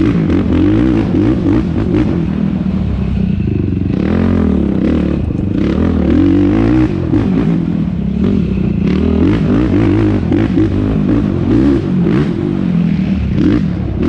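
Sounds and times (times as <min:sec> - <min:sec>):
quad engine revving: 0:00.0 - 0:14.0.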